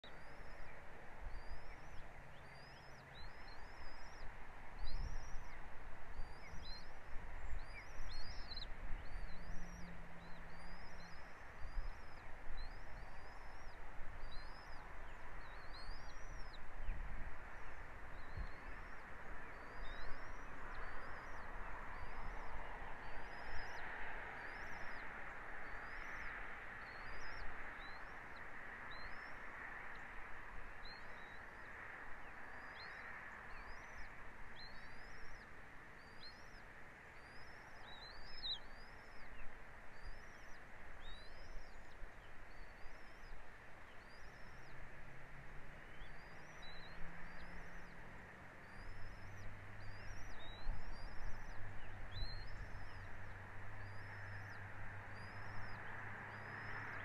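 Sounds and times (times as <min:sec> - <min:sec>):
bird chirping: 0:00.0 - 0:45.0, 0:45.7 - 0:48.0, 0:48.6 - 0:57.0.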